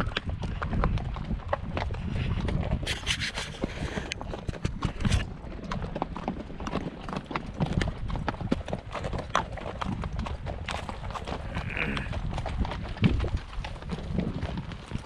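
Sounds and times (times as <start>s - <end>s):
horse hooves on stony trail: 0.0s - 15.0s.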